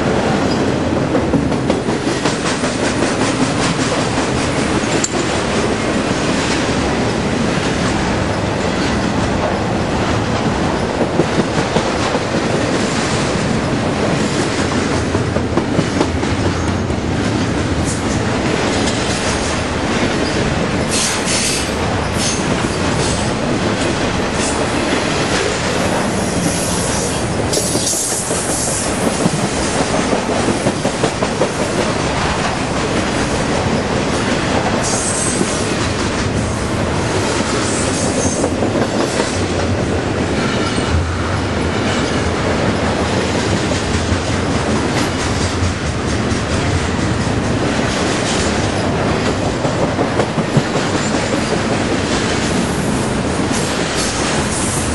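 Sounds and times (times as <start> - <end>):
clickety-clack over rail joints: 0.0 - 54.9
steel wheels rumbling on rail: 0.0 - 54.9.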